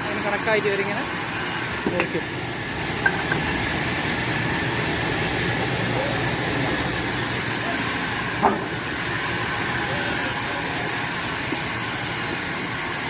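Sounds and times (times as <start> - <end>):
sawmill machinery whirring: 0.0 - 13.0.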